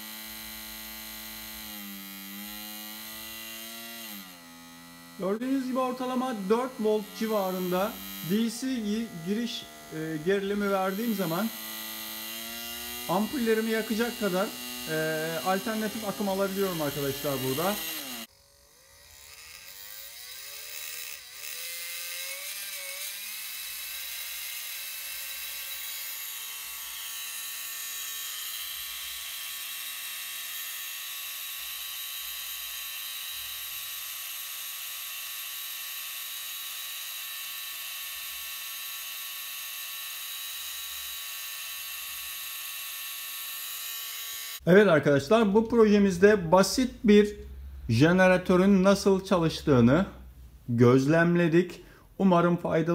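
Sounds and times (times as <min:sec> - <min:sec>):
small electric motor whirring: 0:00.0 - 0:44.7.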